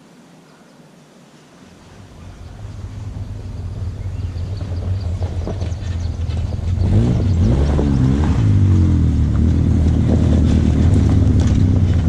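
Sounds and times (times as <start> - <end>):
off-road vehicle engine revving: 2.0 - 12.0.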